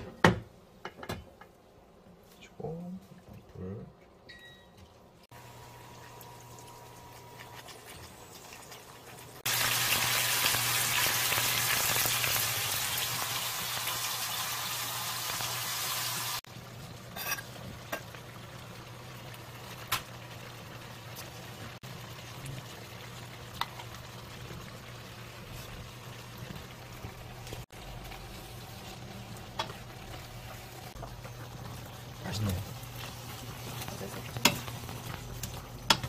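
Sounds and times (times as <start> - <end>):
food sizzling in frying pans: 5.2 - 36.0.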